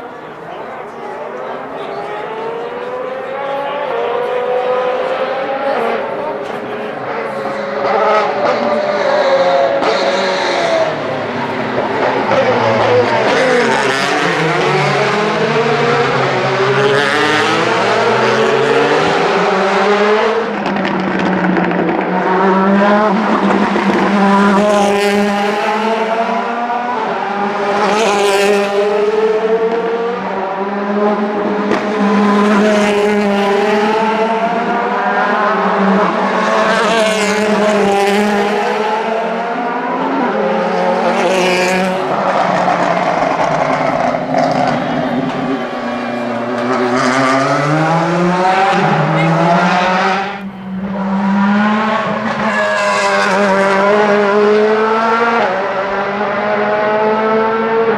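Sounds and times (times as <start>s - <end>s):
race car engines revving past: 0.0s - 57.9s.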